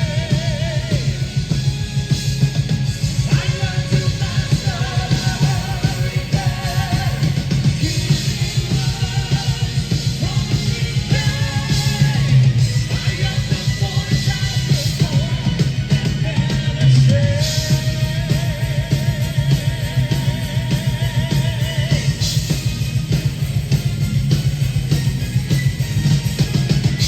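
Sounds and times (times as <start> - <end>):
fast dense drumming: 0.0 - 27.0
live metal band playing: 0.0 - 27.0.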